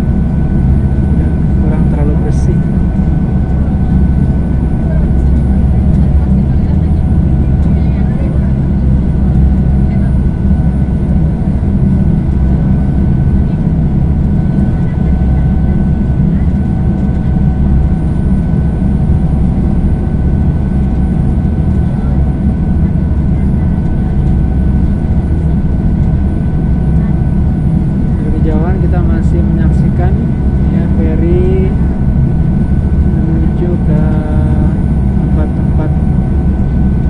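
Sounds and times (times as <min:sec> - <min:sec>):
ship engines rumbling: 0:00.0 - 0:37.0
steady whining tones: 0:00.0 - 0:37.0.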